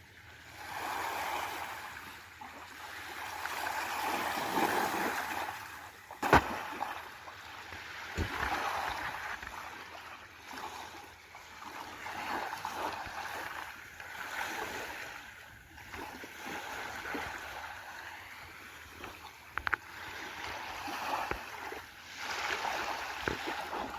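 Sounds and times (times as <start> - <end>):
sea water lapping: 0.4 - 23.9.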